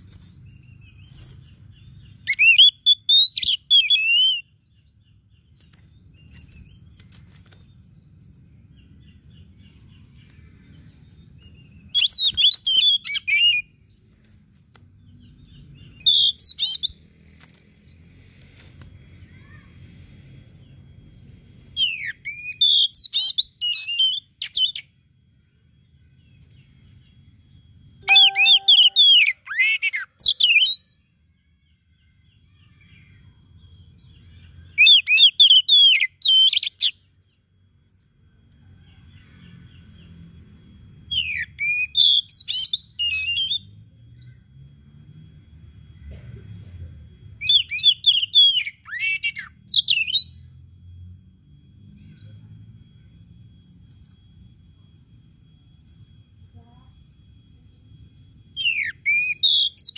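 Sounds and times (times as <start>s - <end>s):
bird singing whistled notes: 0.1s - 14.0s, 15.0s - 17.2s, 20.5s - 46.0s, 47.1s - 59.9s.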